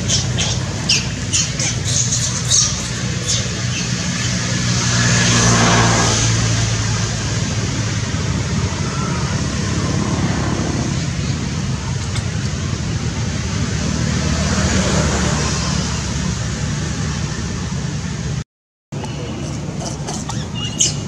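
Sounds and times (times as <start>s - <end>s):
low engine hum: 0.0s - 18.4s, 19.0s - 21.0s
road traffic rumble and hiss: 0.0s - 21.0s.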